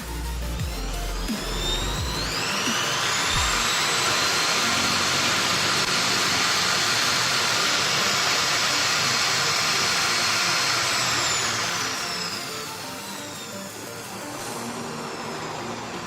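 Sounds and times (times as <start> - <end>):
angle grinder motor whining: 0.1 - 16.0.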